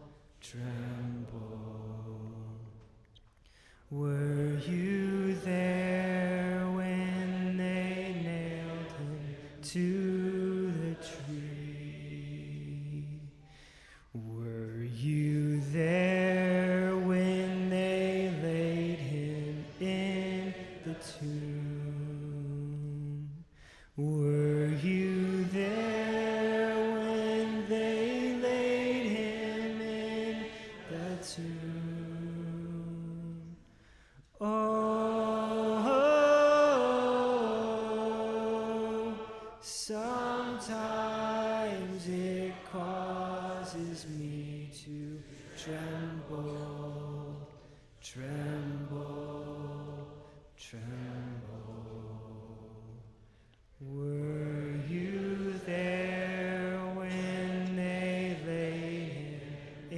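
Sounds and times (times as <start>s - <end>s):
slow hymn singing: 0.0s - 59.9s.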